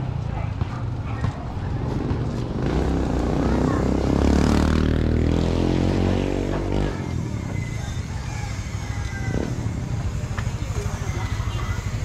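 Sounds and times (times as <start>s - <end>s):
low street hum: 0.0s - 12.0s
vehicle engine running: 0.0s - 12.0s.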